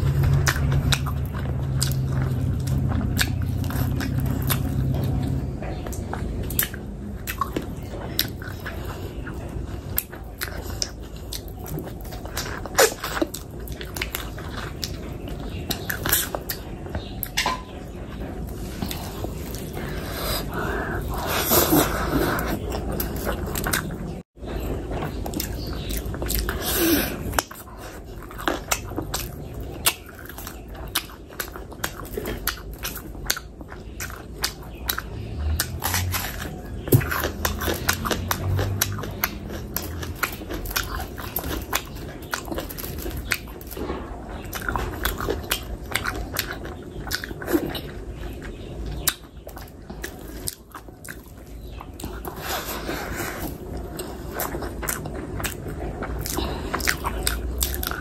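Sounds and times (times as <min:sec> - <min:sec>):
wet chewing with mouth smacks: 0:00.0 - 0:58.0.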